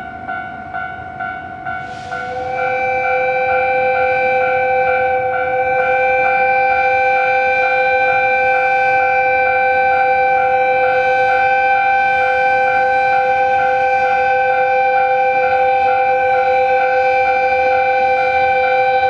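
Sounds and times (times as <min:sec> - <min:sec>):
level-crossing alarm ringing: 0:00.0 - 0:19.0.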